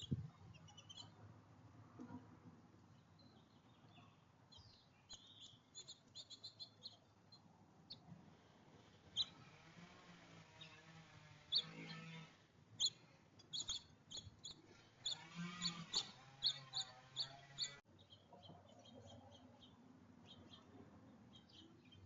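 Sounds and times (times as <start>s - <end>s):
songbirds chirping: 0.0s - 1.4s, 2.0s - 22.0s.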